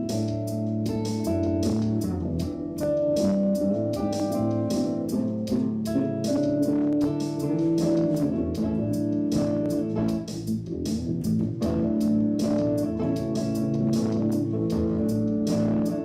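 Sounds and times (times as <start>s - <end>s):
guitar music with bass: 0.0s - 16.0s
steady beat of sharp strokes: 0.0s - 16.0s.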